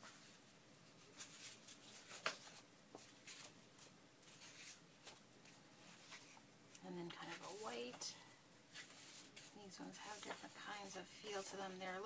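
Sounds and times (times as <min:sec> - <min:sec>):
paper sheets rustling: 0:00.0 - 0:06.4, 0:08.7 - 0:12.0.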